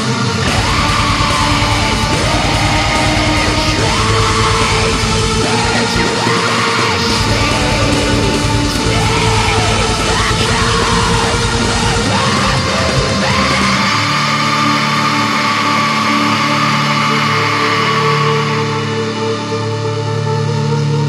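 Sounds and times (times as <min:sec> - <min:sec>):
harsh yelled vocals: 0:00.0 - 0:19.6
black metal music: 0:00.0 - 0:21.0.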